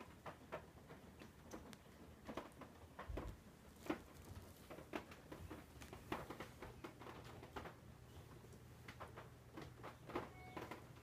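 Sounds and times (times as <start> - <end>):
cats pawing and scuffling: 0.0 - 11.0.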